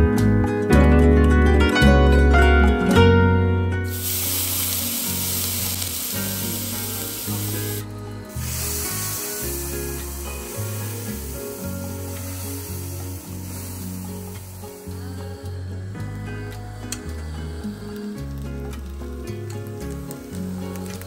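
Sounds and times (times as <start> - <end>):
background music plucked melody: 0.0 - 21.0
sizzling on a hot griddle: 3.9 - 21.0.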